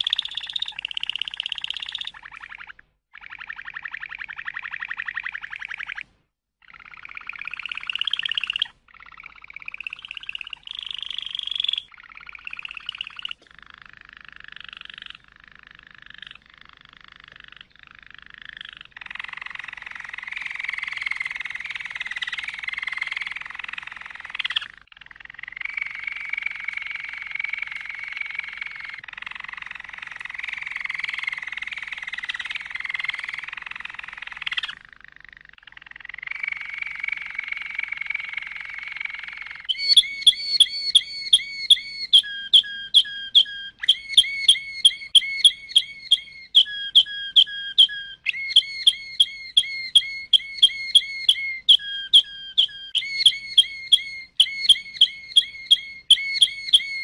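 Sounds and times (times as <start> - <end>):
canary singing rolling trills: 0.0 - 57.0.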